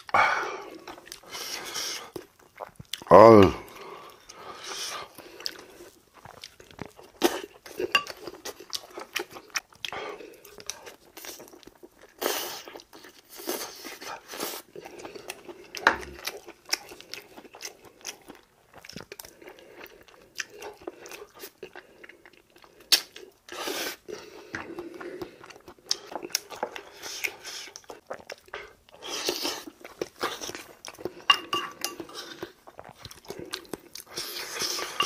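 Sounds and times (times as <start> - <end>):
man chewing and crunching food: 0.0 - 35.0.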